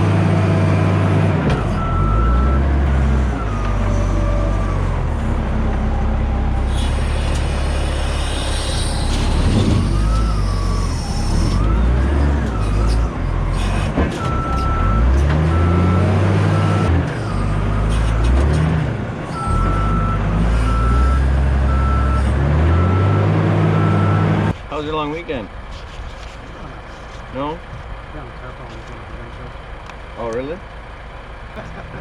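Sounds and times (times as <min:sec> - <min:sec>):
skid steer diesel engine working: 0:00.0 - 0:32.0.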